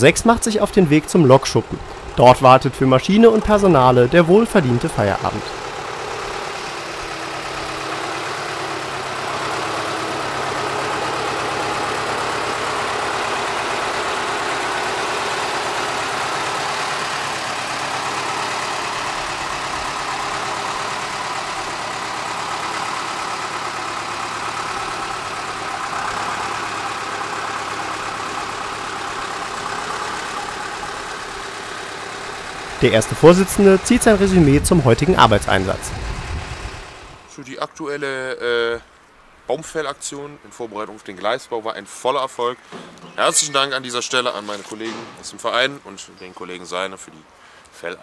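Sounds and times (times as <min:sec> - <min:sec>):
diesel locomotive engine running: 0:00.0 - 0:37.4, 0:38.7 - 0:47.7.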